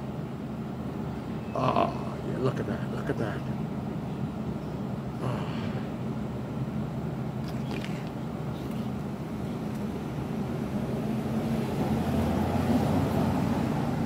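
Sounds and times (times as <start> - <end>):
city street traffic hum: 0.0 - 14.0.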